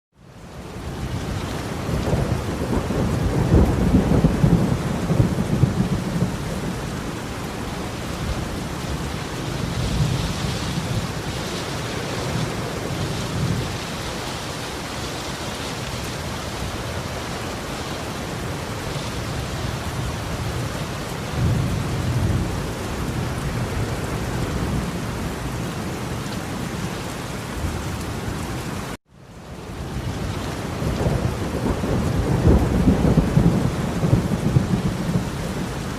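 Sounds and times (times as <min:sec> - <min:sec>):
steady rain falling: 0:00.2 - 0:35.9
rolling thunder: 0:01.2 - 0:25.8, 0:30.1 - 0:35.9.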